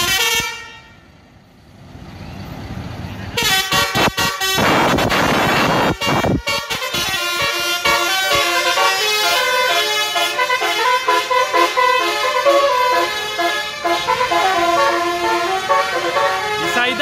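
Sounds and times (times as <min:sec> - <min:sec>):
bus horn playing a tune: 0:00.0 - 0:01.1, 0:03.4 - 0:17.0.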